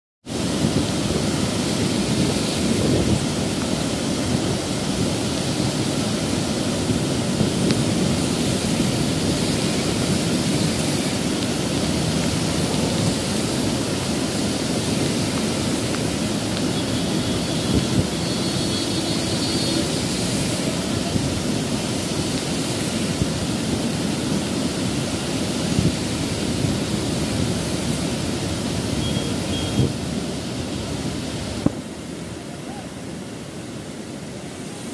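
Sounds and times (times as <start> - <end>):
water rushing over spillway: 0.2 - 34.9.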